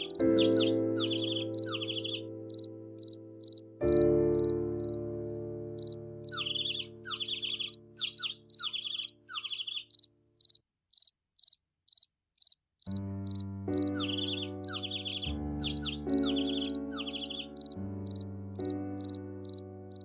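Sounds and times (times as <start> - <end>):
insects chirping in pulses: 0.0 - 3.8, 4.4 - 5.0, 5.8 - 20.0.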